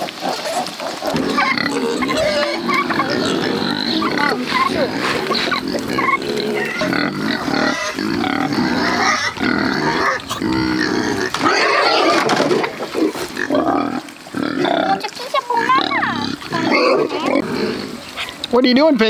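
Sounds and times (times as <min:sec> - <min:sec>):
piglets grunting: 0:00.0 - 0:18.4.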